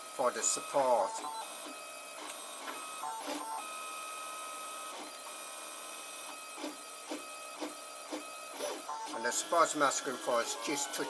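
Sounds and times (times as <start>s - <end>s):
three d printer stepper motors whining: 0.0s - 11.0s.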